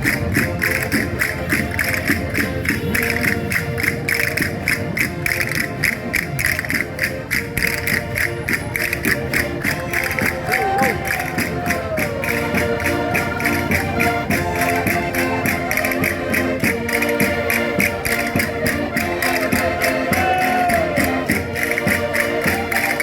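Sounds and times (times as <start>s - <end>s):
concertinas playing a dance tune: 0.0s - 23.0s
quick percussive beat: 0.0s - 23.0s.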